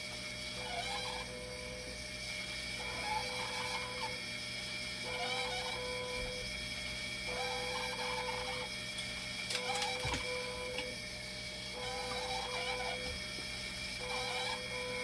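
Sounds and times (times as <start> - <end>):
machine hum and whine: 0.0 - 15.0.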